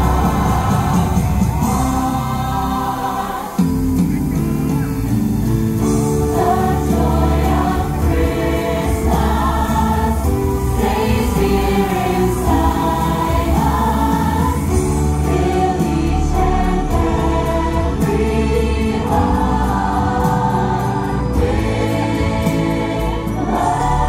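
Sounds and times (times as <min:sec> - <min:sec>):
choir singing over band track: 0:00.0 - 0:24.0.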